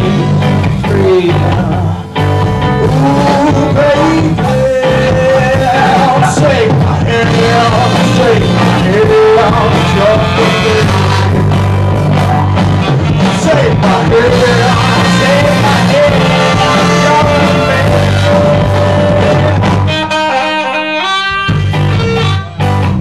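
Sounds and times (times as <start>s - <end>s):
person singing: 0.0s - 11.3s, 13.2s - 20.9s
live ska band playing: 0.0s - 23.0s.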